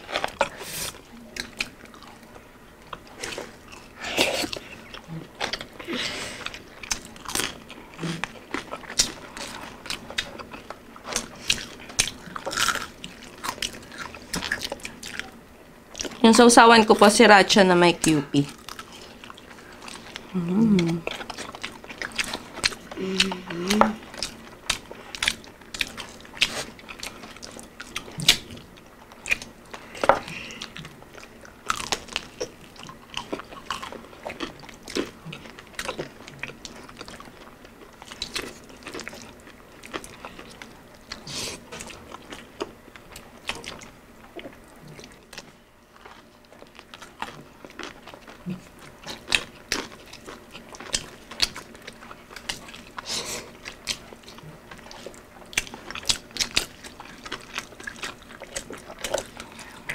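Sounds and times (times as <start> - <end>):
chewing: 0.0 - 16.2, 18.4 - 59.9
crunching fried food: 0.0 - 16.2, 18.5 - 59.9.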